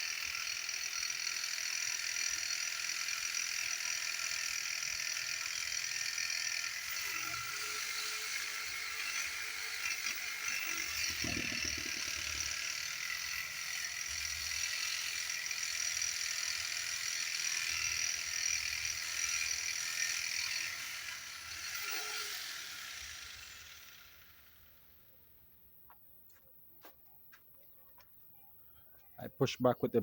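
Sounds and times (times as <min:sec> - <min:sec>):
reciprocating saw cutting wood: 0:00.0 - 0:24.9.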